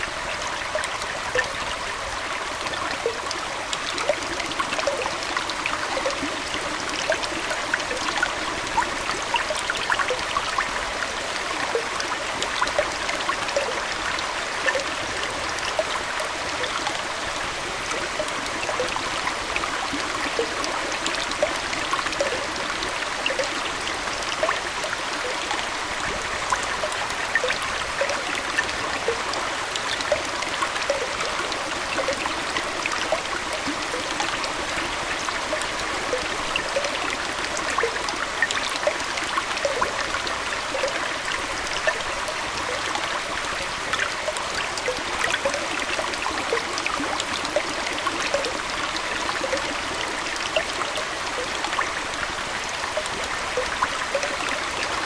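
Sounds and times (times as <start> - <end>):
aquarium water trickling: 0.0 - 55.0
tiny water splashes: 0.0 - 55.0.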